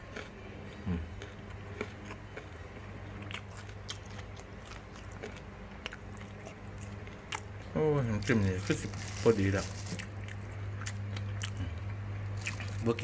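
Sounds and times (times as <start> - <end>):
person chewing food: 0.0 - 7.6, 9.9 - 13.0
steady low hum: 0.0 - 13.0.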